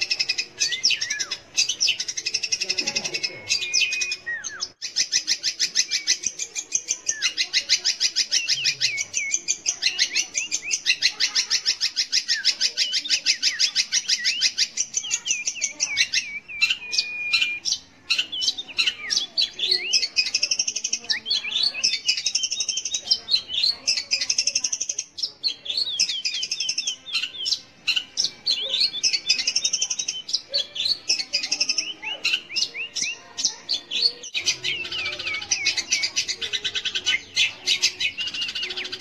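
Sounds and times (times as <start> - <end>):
bird chattering song: 0.0 - 39.0.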